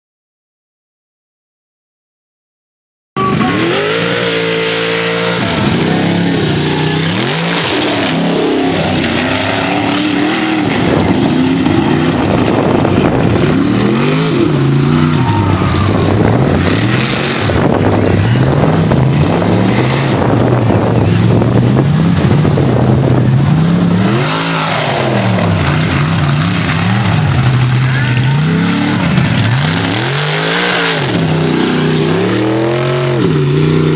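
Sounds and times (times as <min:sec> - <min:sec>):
truck engine revving hard: 0:03.2 - 0:33.9.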